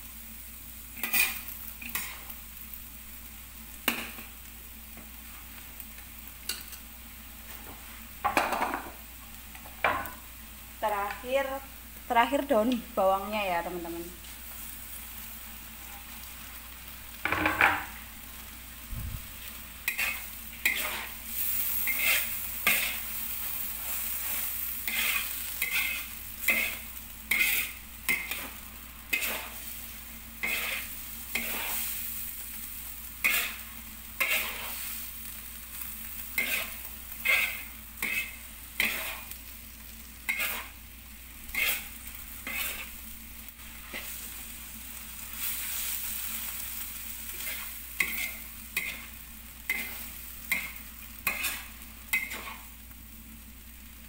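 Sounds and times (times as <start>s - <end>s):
noodles sizzling in a wok: 0.0s - 54.0s.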